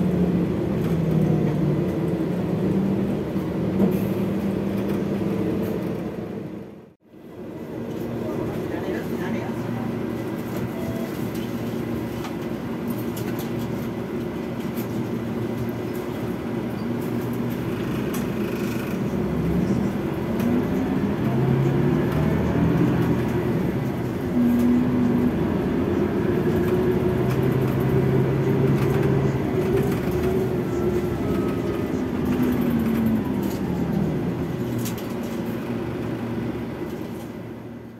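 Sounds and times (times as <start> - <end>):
coach diesel engine with gear shifts: 0.0 - 37.9.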